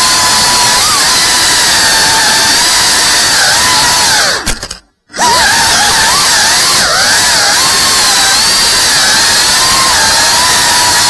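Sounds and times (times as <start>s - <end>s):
drone motor whine: 0.0s - 11.0s.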